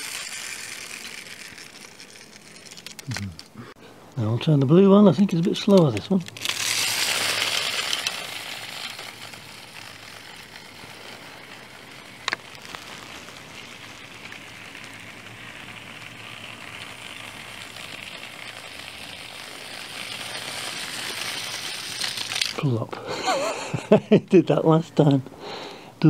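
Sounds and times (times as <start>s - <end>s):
clockwork toy train whirring: 0.0s - 3.5s, 4.5s - 23.9s.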